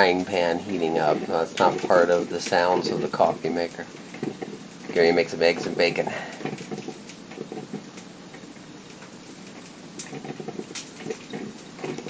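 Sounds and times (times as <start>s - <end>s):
frying pan crackling: 0.0s - 12.0s.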